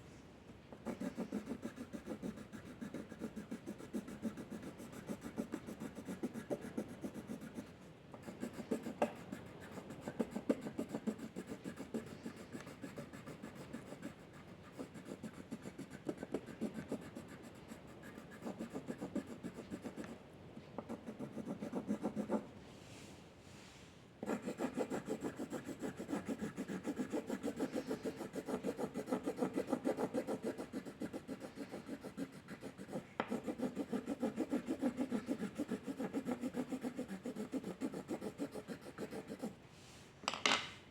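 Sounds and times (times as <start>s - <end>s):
pencil rubbing on paper: 0.8s - 20.2s, 20.8s - 22.4s, 24.2s - 39.6s.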